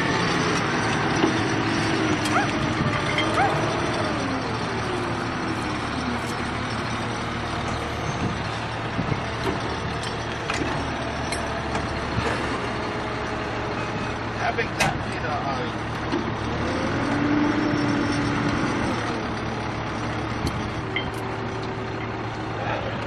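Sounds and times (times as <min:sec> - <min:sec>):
heavy vehicle engine rumbling: 0:00.0 - 0:23.0.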